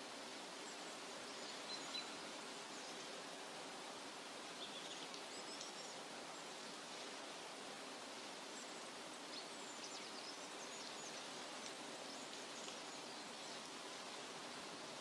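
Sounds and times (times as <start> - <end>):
soft forest hiss: 0.0 - 15.0.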